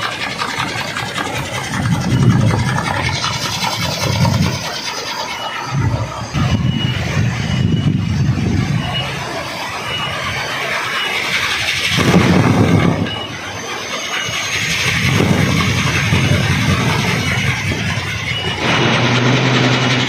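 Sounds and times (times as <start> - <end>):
wind propeller whirring: 0.0 - 20.0.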